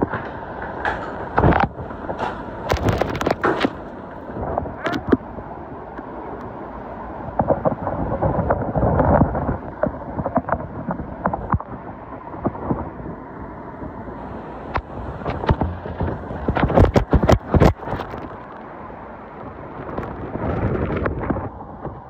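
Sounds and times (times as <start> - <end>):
gusts buffeting microphone: 0.0 - 22.0.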